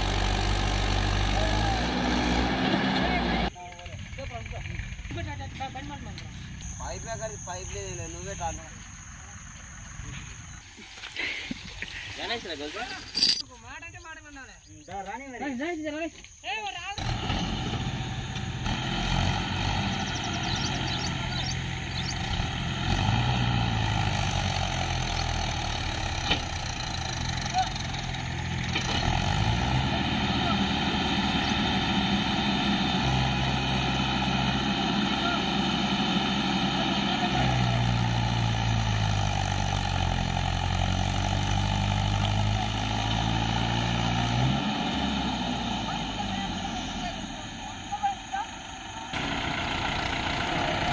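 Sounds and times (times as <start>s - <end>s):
tractor diesel engine straining: 0.0s - 10.6s, 11.9s - 13.5s, 17.0s - 50.9s.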